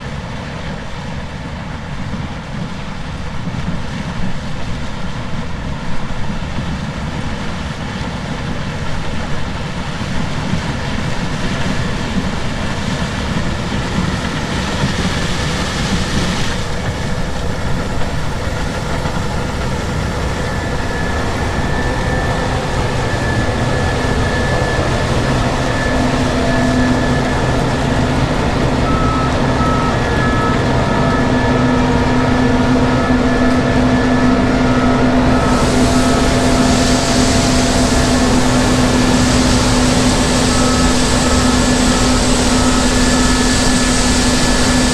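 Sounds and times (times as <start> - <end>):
combine harvester low hum: 1.2 - 44.9
steady whine: 8.4 - 44.9.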